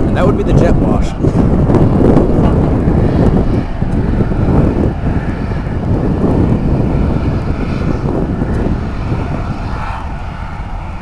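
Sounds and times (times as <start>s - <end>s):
jet airliner engine rumble: 0.0s - 11.0s.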